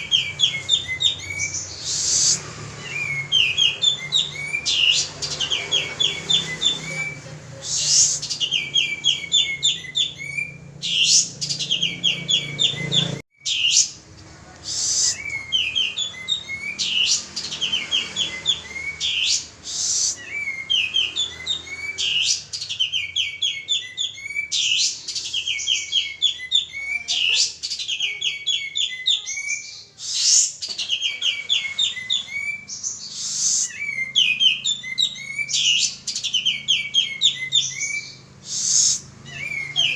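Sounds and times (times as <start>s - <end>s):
bird singing rapid chattering notes: 0.0s - 14.0s, 14.7s - 39.9s.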